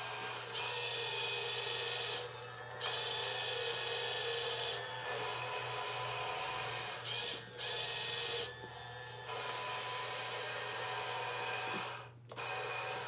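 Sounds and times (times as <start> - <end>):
electric motors whirring: 0.0 - 13.0.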